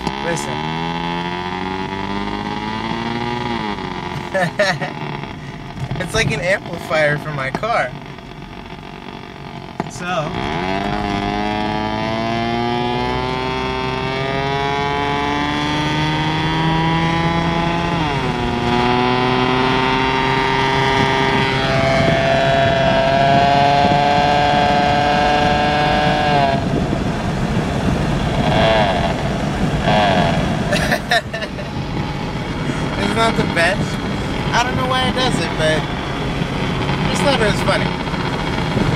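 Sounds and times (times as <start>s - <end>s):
engine whine through car speakers: 0.0s - 38.9s.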